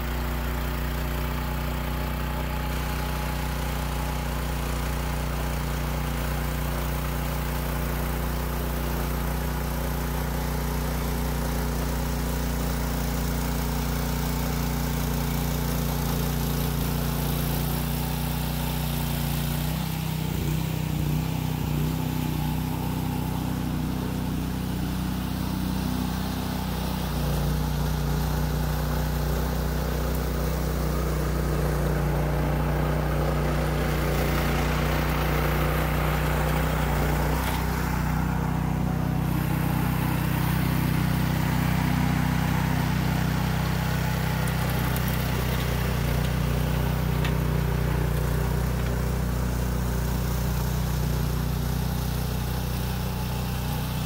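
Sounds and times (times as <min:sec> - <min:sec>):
rototiller engine running: 0:00.0 - 0:54.0.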